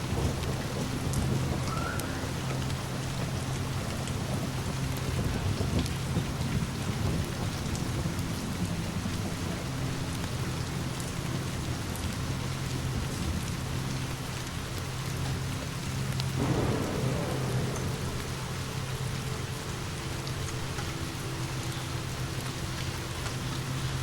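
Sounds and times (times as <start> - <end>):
distant thunder rumbling: 0.0 - 24.0
rain falling: 0.0 - 24.0.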